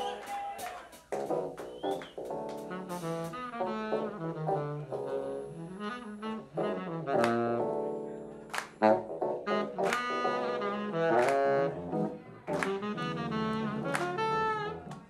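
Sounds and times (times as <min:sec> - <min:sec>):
jazz funk band playing: 0:01.0 - 0:15.0
saxophone melody: 0:01.2 - 0:15.0.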